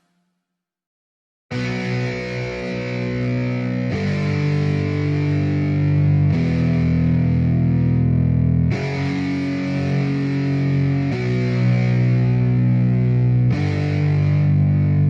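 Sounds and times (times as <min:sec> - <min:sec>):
distorted electric guitar chords: 0:01.5 - 0:15.0.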